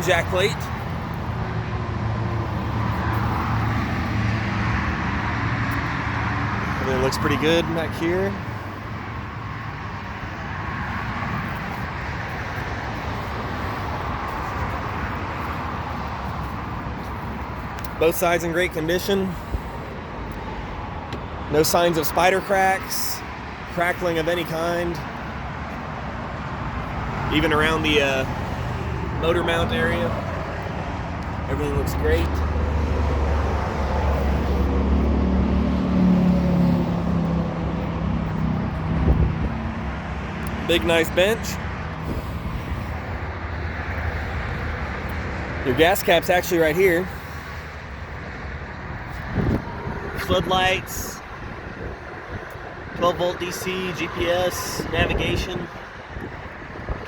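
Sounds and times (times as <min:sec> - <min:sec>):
low rumble of distant traffic: 0:00.0 - 0:57.0
vehicle engine humming: 0:00.0 - 0:57.0.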